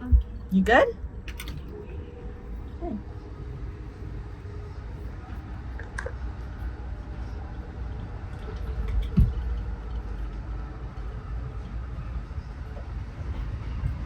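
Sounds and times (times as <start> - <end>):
train car rumbling: 0.0 - 14.0.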